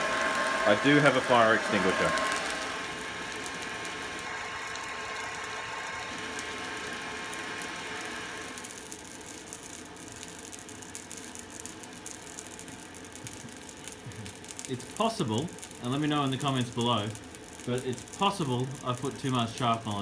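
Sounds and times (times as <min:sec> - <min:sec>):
air blowing into fire: 0:00.0 - 0:20.0
forge fire crackling: 0:00.0 - 0:20.0.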